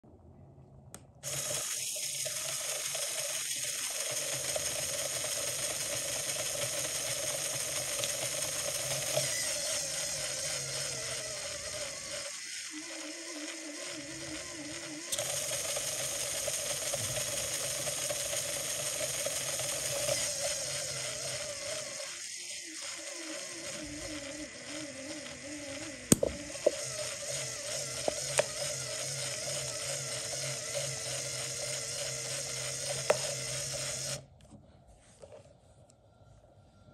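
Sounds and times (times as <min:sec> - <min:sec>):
plastic gear train whirring: 0:01.2 - 0:34.4.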